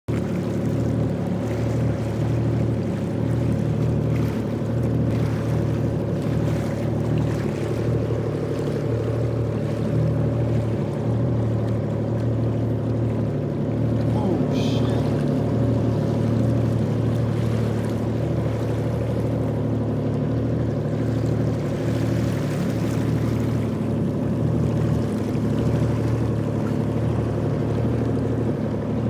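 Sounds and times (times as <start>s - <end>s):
jet ski engine humming: 0.1s - 29.0s.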